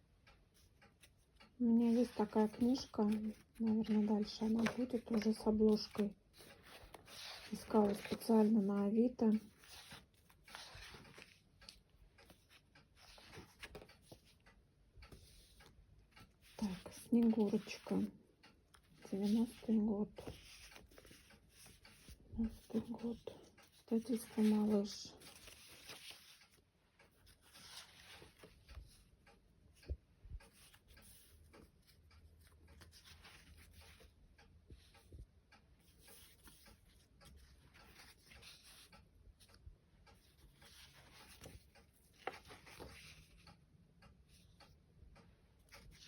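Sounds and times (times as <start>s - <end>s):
book pages rustling and turning: 0.2s - 44.7s, 45.6s - 46.0s.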